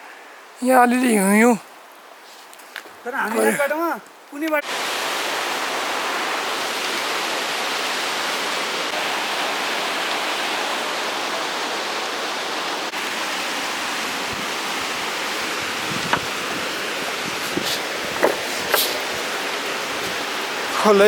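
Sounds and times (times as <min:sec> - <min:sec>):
rushing water: 0:03.0 - 0:21.0.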